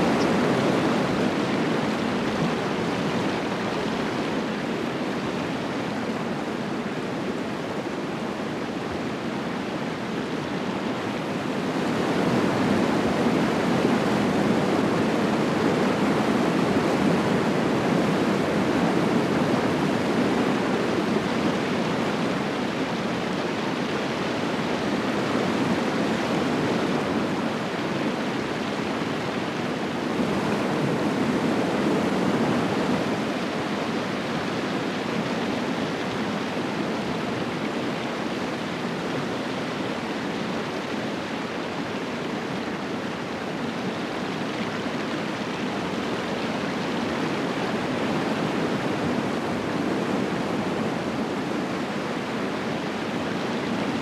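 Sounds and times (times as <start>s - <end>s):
river rapids rushing over rocks: 0.0s - 54.0s.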